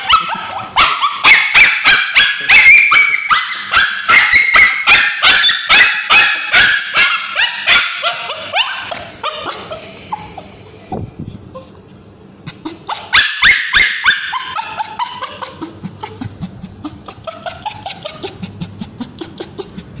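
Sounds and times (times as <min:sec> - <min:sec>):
dog yelping: 0:00.0 - 0:10.7, 0:11.3 - 0:11.8, 0:12.6 - 0:16.2, 0:16.8 - 0:19.5.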